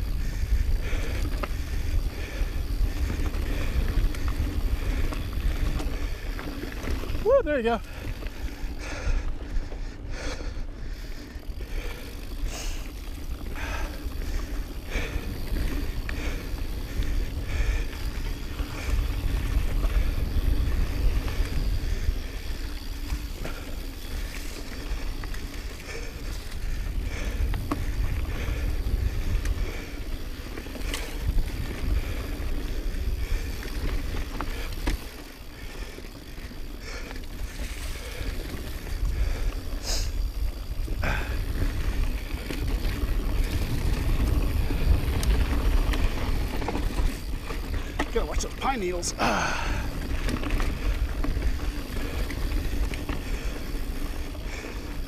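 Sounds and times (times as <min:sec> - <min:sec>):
wind rumble on microphone: 0:00.0 - 0:35.7, 0:37.2 - 0:48.6
bike clicks and rattles: 0:00.0 - 0:55.0
tyres on dirt: 0:00.0 - 0:55.0.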